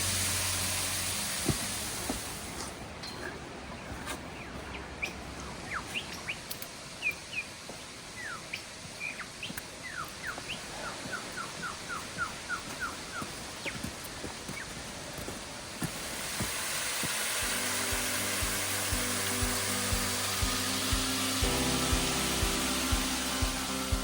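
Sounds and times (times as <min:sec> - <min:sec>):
background hiss: 0:00.0 - 0:24.0
birds chirping: 0:01.1 - 0:24.0.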